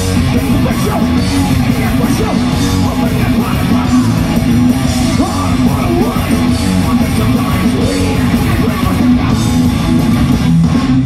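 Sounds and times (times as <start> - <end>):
live heavy metal band: 0.0 - 11.0.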